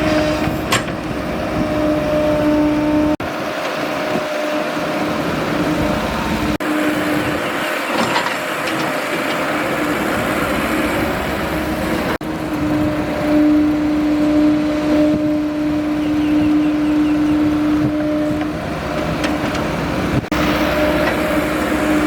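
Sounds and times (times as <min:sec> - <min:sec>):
excavator engine whining: 0:00.0 - 0:22.0.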